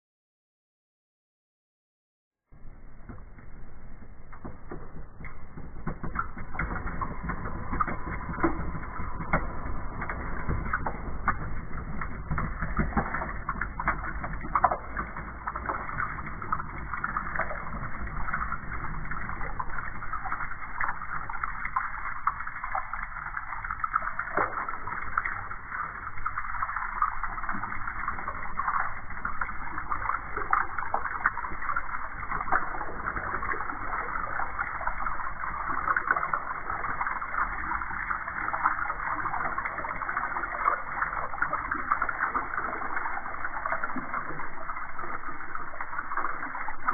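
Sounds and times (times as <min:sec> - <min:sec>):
water splashing into a tub: 0:02.6 - 0:46.9.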